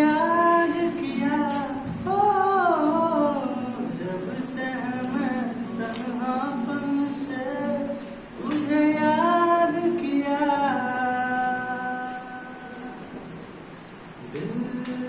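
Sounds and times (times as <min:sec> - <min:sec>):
young man singing: 0:00.0 - 0:13.4, 0:14.2 - 0:15.0
strummed acoustic guitar: 0:00.0 - 0:13.7.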